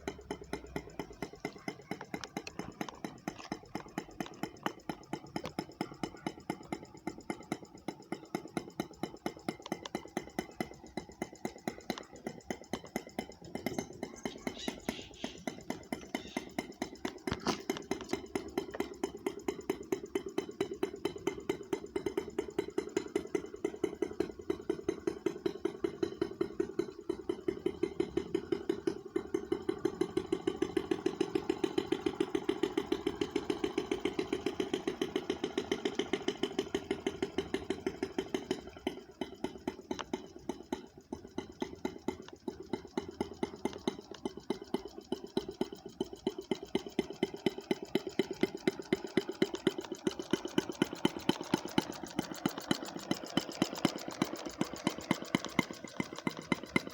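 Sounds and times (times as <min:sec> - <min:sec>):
small gas engine running: 0:00.0 - 0:56.9.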